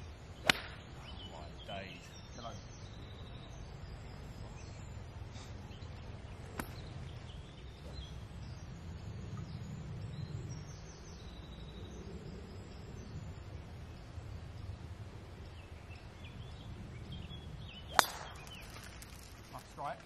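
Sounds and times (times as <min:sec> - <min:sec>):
faint birdsong: 0:00.0 - 0:20.0
wind rumble on microphone: 0:02.6 - 0:19.9.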